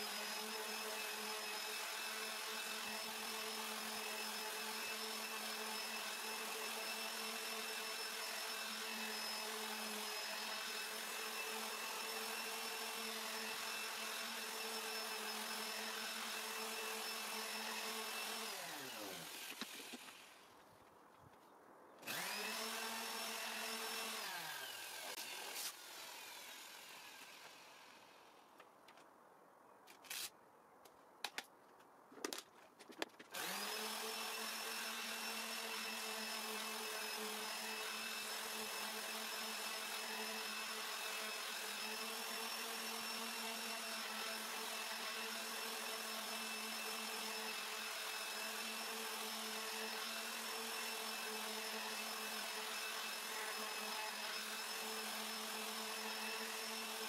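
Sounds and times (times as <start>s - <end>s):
electric orbital sander running: 0.0s - 20.4s, 22.0s - 28.1s, 33.4s - 57.0s.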